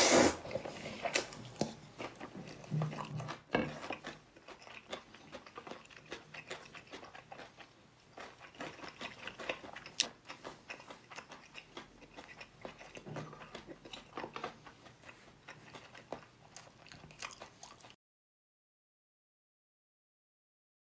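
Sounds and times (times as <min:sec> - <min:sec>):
chewing with crunchy clicks: 0:00.7 - 0:18.0.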